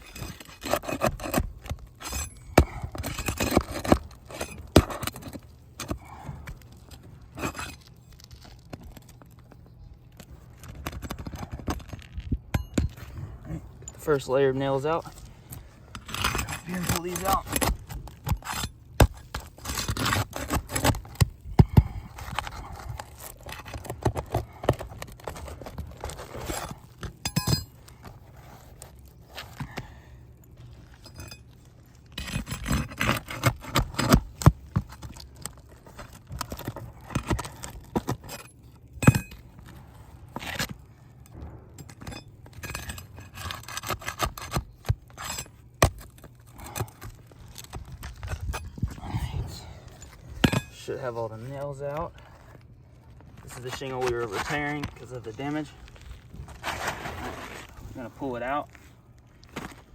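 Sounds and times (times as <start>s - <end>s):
metal tool scraping shingles: 0.0s - 8.7s, 10.6s - 48.9s, 53.2s - 58.9s.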